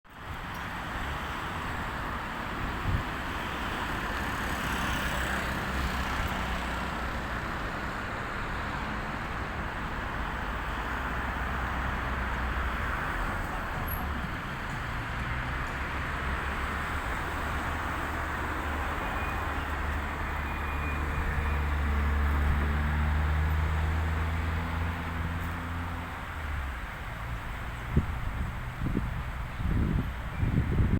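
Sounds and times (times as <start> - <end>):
road traffic noise: 0.1 - 30.9
vehicle engine drone: 5.4 - 30.9.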